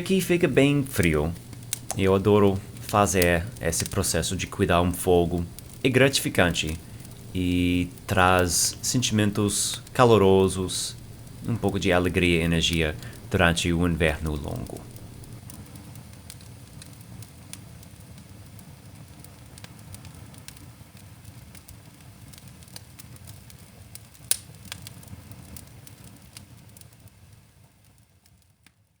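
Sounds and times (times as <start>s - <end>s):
low rumble of flames: 0.0s - 28.7s
fire crackling and popping: 0.0s - 28.8s.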